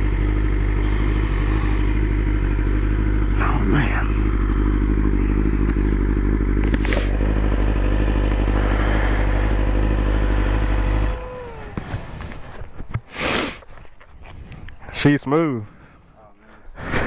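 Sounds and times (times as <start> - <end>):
motorcycle engine idling: 0.0 - 14.9
faint engine whine: 0.0 - 15.0.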